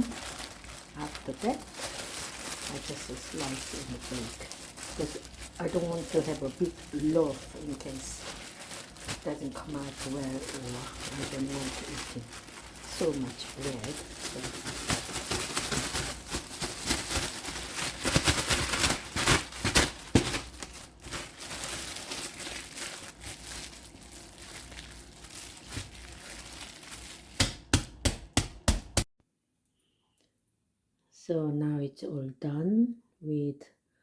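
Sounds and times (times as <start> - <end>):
dough rustling and crinkling: 0.0 - 29.1.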